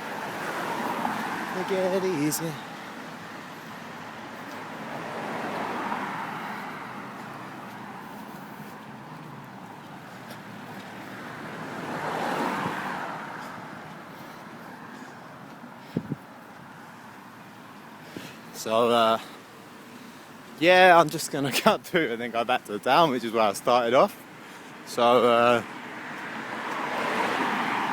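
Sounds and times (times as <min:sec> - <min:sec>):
cars passing by: 0:00.0 - 0:27.9
traffic hum: 0:00.0 - 0:27.9.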